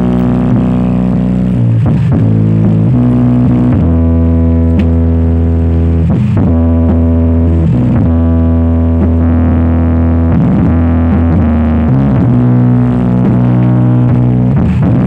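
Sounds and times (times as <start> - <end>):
bass-heavy music over speakers: 0.0 - 15.0.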